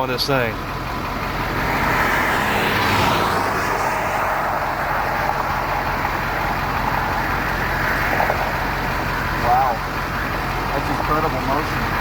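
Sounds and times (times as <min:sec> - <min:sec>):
road and wind noise: 0:00.0 - 0:12.0
vehicle engine rumble: 0:00.0 - 0:12.0.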